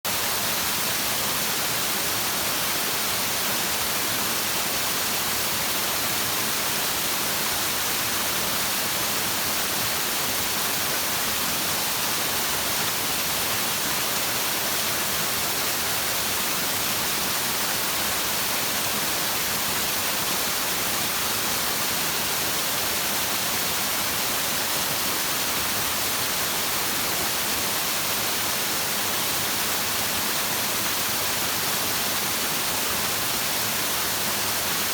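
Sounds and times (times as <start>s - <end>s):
stream water rushing: 0.1s - 34.9s.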